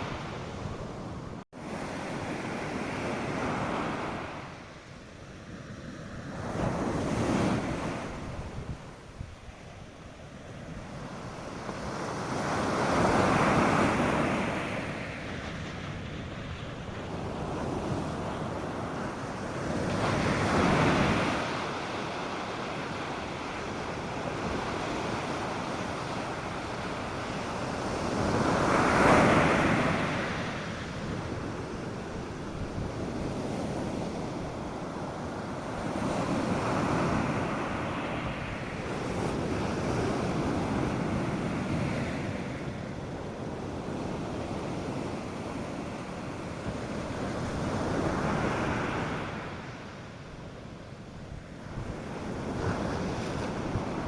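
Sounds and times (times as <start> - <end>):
wind noise on microphone: 0.0 - 4.7, 5.3 - 54.0
waves breaking on a beach: 0.0 - 54.0.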